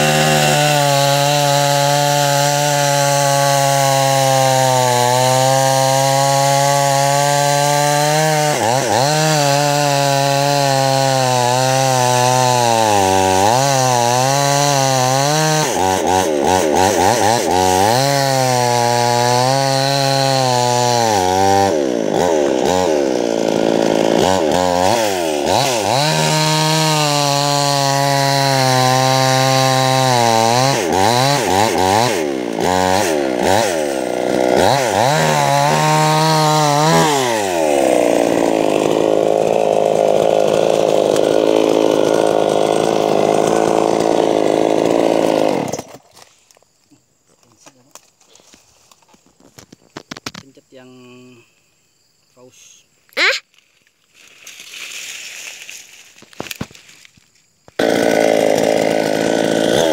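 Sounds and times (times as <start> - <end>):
chainsaw cutting logs: 0.0 - 50.8, 53.2 - 53.4, 54.1 - 59.9.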